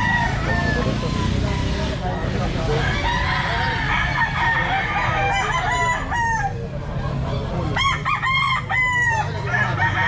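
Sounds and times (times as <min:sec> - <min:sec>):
roosters crowing: 0:00.0 - 0:07.0, 0:07.6 - 0:10.0.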